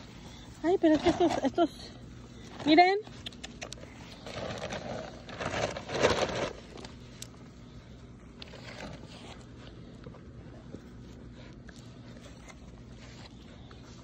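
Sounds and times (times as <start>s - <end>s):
puppies crunching kibble: 0.0s - 14.0s.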